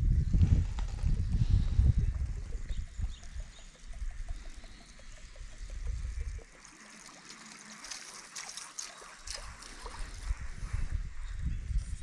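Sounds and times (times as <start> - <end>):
water splashing and gurgling: 0.9 - 11.2.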